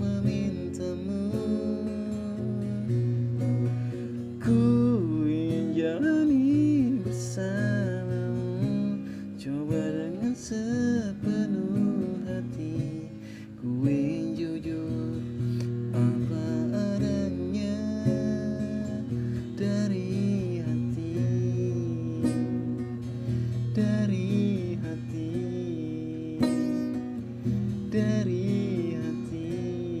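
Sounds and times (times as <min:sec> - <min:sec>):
acoustic guitar strummed and plucked: 0:00.0 - 0:30.0.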